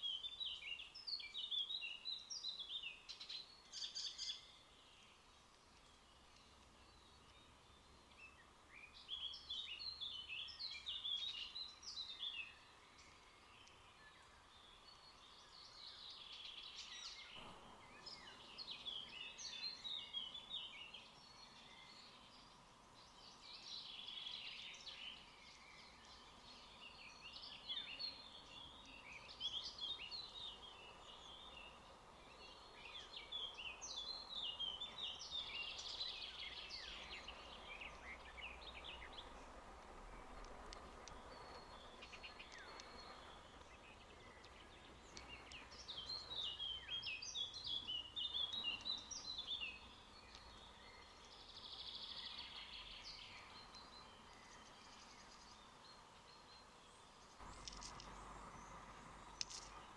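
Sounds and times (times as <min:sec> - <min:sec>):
faint outdoor background noise: 0:00.0 - 0:59.9
wild birds chirping: 0:00.0 - 0:59.9.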